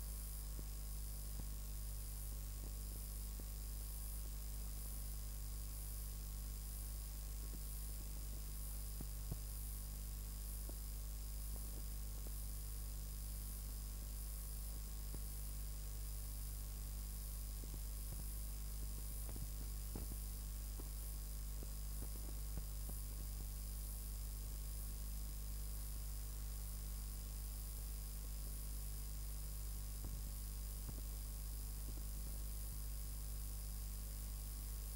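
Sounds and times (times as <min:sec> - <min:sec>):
mains hum with hiss: 0:00.0 - 0:34.9.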